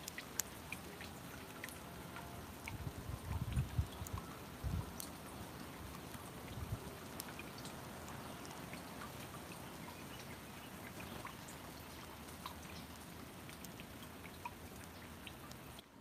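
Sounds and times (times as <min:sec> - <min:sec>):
trickle of running water: 0:00.0 - 0:16.0
water drips ticking: 0:00.0 - 0:16.0.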